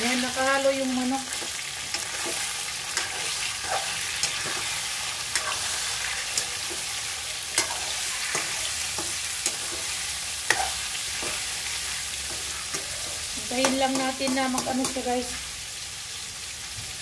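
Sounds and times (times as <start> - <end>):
metal spoon scraping wok: 0.0 - 15.4
chicken sizzling in oil: 0.0 - 17.0.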